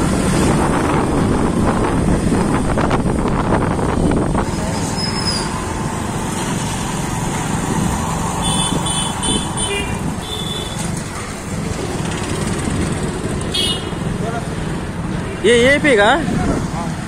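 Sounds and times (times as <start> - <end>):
motorcycle engine and road noise: 0.0 - 17.0.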